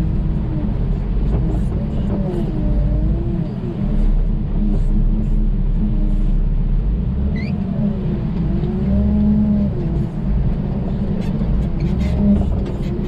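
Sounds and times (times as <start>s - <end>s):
engine running low rumble: 0.0s - 13.0s.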